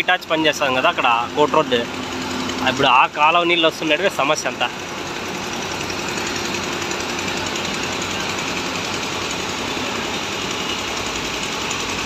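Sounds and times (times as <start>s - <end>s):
excavator diesel engine clattering: 0.0s - 12.0s.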